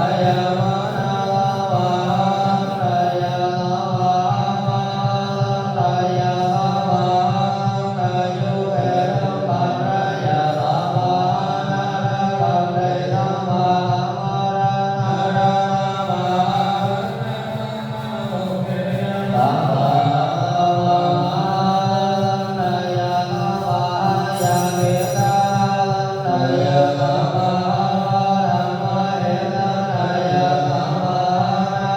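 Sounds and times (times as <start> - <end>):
voices chanting in long notes: 0.0 - 31.9.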